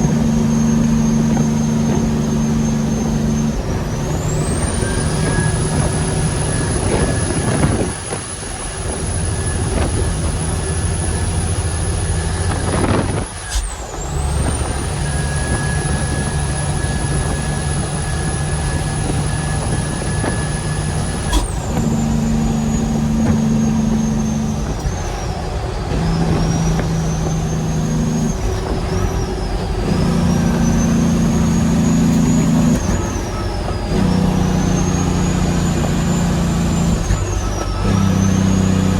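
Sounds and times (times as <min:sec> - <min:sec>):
diesel truck engine whining: 0:00.0 - 0:38.9.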